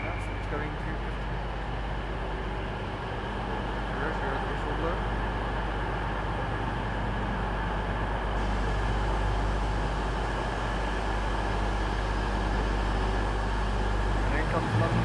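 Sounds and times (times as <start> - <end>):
diesel train engine running: 0.0 - 15.0.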